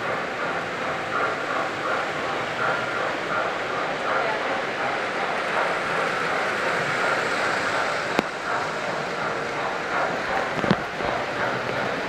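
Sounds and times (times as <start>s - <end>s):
model trains rolling on track: 0.0s - 12.0s.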